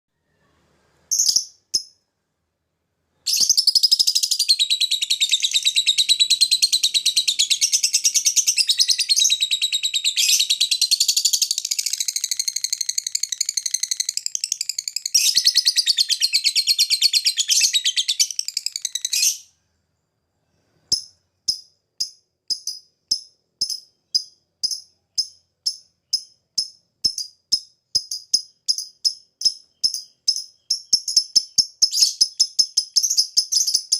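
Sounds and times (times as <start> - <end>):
lovebird ticking chirps: 1.1 - 2.0, 3.3 - 19.5, 20.9 - 33.9
lovebird chattering trill: 3.3 - 19.5, 20.9 - 33.9.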